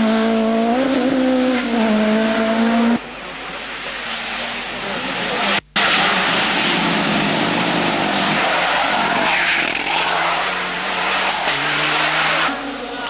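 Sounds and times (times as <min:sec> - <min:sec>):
rally car engine at high revs: 0:00.0 - 0:13.0
tyre and road noise: 0:00.0 - 0:13.0.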